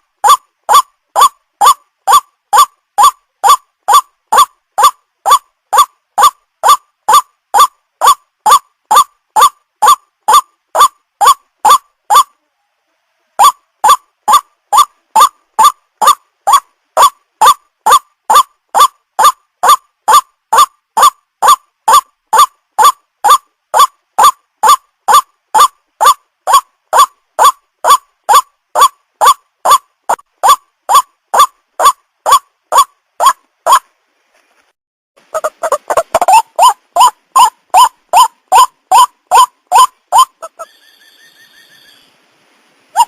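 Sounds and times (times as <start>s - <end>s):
waterhen calling: 0.0s - 12.4s, 13.4s - 33.9s, 35.2s - 42.1s.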